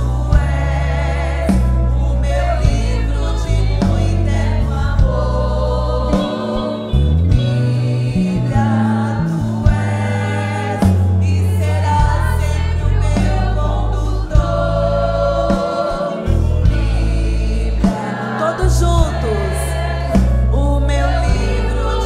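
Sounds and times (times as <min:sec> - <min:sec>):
church band playing: 0:00.0 - 0:22.0
deep bass line: 0:00.0 - 0:22.0
drums: 0:00.0 - 0:22.0
women singing gospel song: 0:00.0 - 0:22.0.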